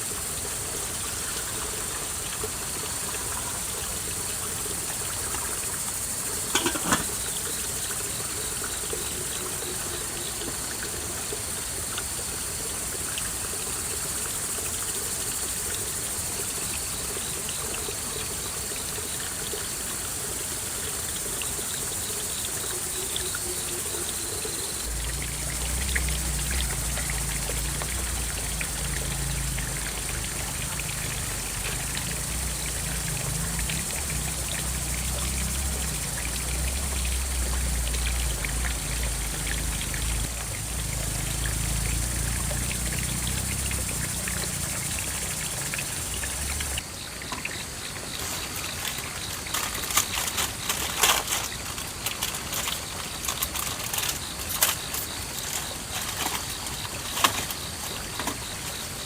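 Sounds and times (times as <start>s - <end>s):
running water trickling: 0.0s - 59.0s.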